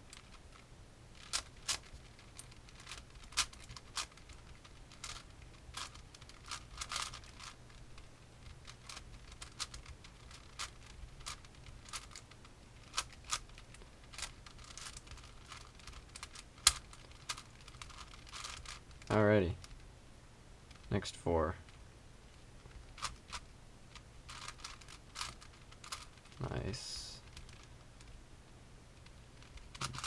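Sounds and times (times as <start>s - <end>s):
puzzle cube plastic clicks: 1.2s - 19.8s, 22.6s - 28.2s, 29.0s - 30.0s.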